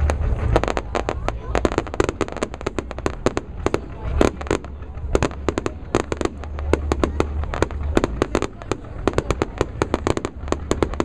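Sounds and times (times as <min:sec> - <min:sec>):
fireworks bangs and pops: 0:00.0 - 0:11.0
steady low rumble: 0:00.0 - 0:11.0.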